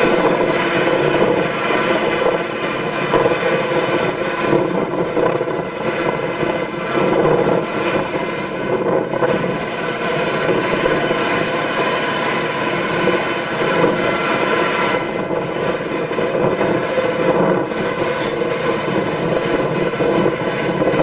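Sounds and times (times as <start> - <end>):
farm machine engine running: 0.0 - 21.0.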